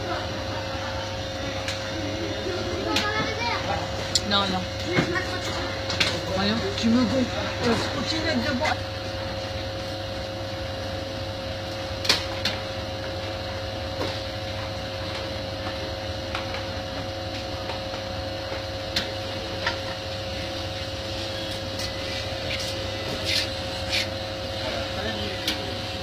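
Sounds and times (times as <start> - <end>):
mechanical hum: 0.0 - 26.0.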